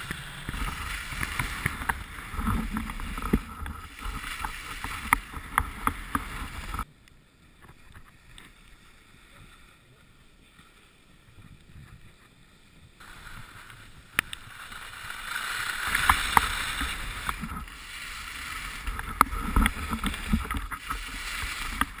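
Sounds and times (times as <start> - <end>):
skis hissing through snow: 0.0 - 6.9, 8.1 - 22.0.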